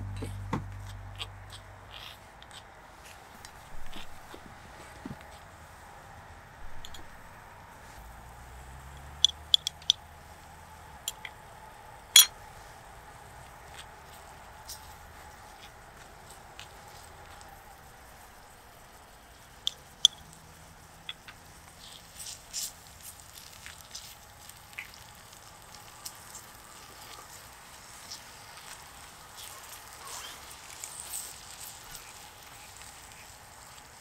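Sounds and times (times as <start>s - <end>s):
faint sizzle: 0.0s - 34.0s.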